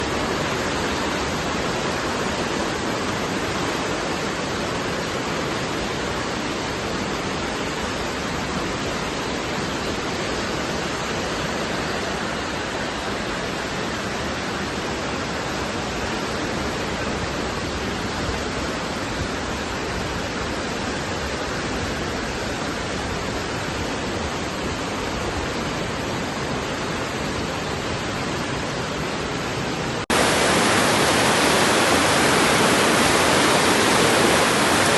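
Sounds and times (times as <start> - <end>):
steady rushing noise: 0.0 - 34.9.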